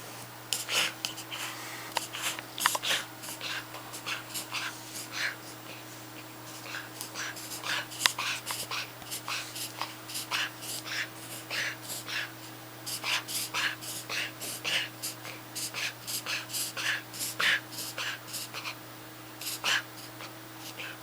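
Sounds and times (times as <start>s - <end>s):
puppy breathing noisily: 0.5s - 18.8s, 19.4s - 21.0s.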